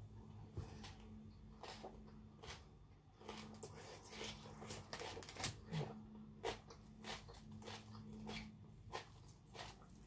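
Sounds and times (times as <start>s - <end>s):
person chewing food: 0.1s - 10.0s.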